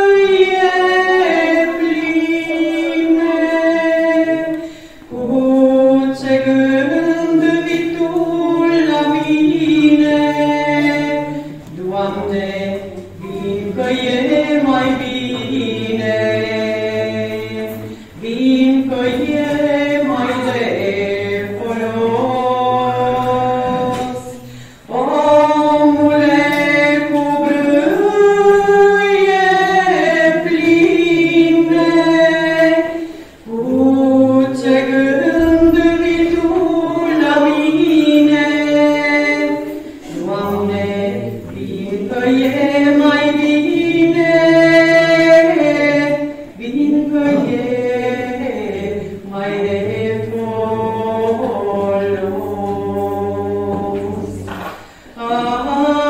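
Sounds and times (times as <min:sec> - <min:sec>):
choir singing a cappella hymn: 0:00.0 - 0:56.0.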